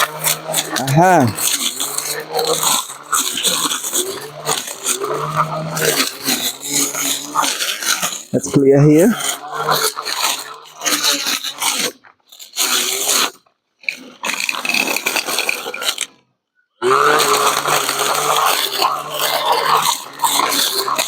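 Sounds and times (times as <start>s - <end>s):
brush cutter cutting grass: 0.0s - 16.2s, 16.8s - 21.0s.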